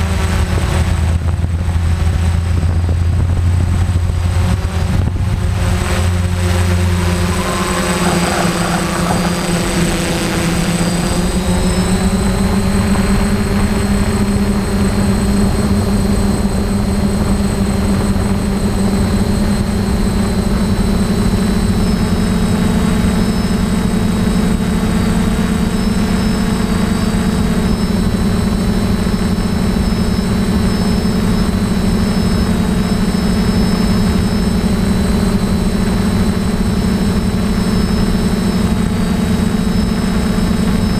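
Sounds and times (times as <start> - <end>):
drone motors and propellers whining: 0.0 - 40.9.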